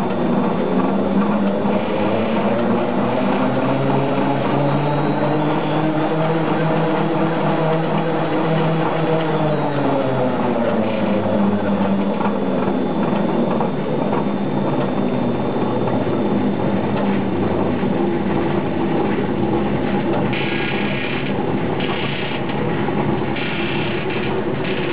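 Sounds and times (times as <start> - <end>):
pellet mill droning and rattling: 0.0 - 24.9.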